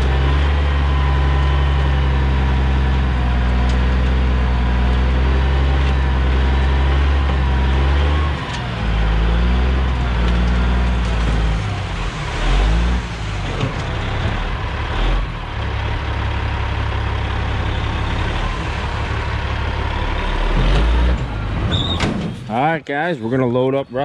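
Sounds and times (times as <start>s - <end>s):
loader diesel engine running hard: 0.0s - 22.7s.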